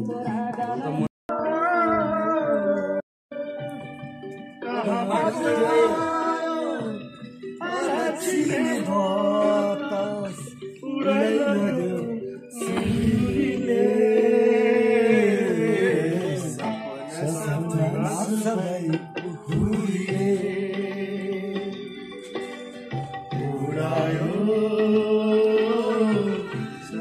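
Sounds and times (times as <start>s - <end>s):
person singing with music: 0.0s - 27.0s.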